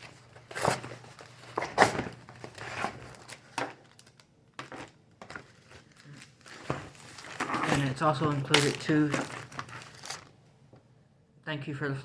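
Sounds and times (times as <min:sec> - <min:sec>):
packaging crinkling and rustling: 0:00.0 - 0:10.4.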